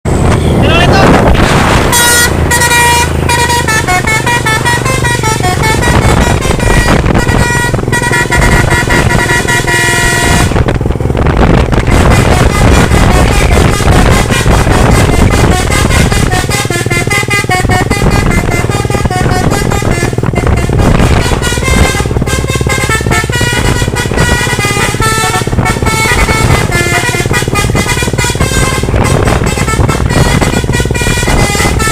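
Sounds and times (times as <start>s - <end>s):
engine rumble: 0.0s - 31.9s
musical air horns playing a tune: 0.8s - 10.8s, 11.8s - 31.9s.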